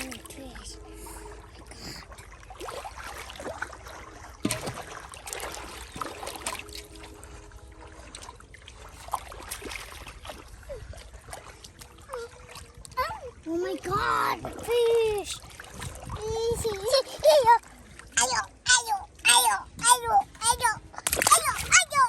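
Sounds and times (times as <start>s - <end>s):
muddy water sloshing and splashing: 0.0s - 22.0s.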